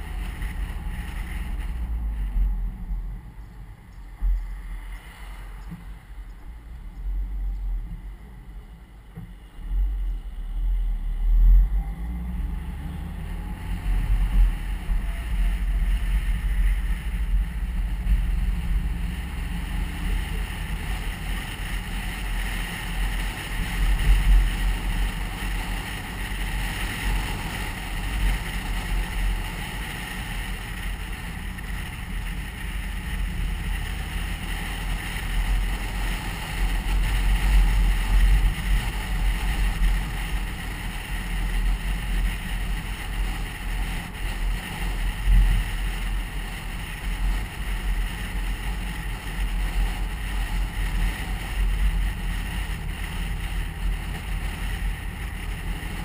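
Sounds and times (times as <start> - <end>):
car engine and tyres rumbling: 0.0 - 56.0
road and wind noise: 0.0 - 56.0.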